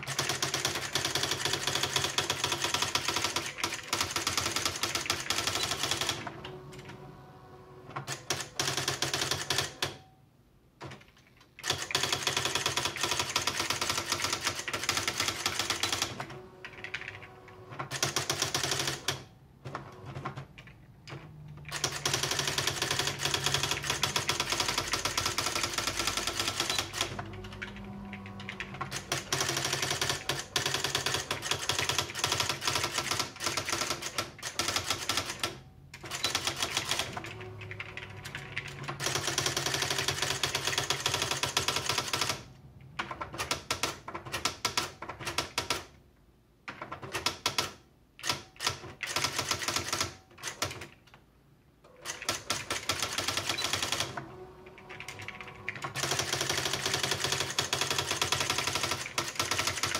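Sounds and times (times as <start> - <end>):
electric typewriter clacking: 0.0 - 7.0, 7.9 - 10.1, 10.8 - 45.9, 46.7 - 51.0, 51.9 - 59.9.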